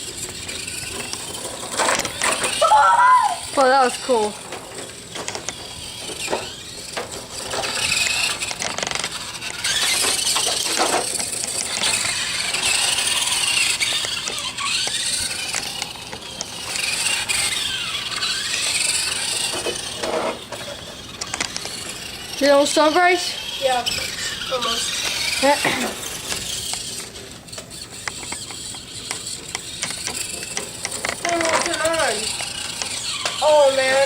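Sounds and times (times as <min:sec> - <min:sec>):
rc car motor whining: 0:00.0 - 0:34.0.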